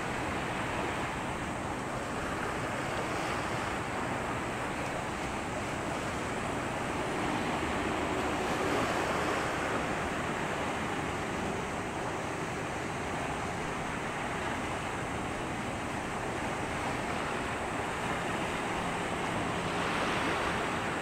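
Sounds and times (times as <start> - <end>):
water at the shore: 0.0 - 21.0.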